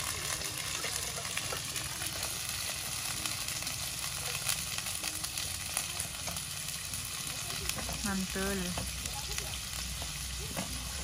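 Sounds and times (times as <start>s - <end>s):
beans sizzling in hot oil: 0.0s - 11.0s.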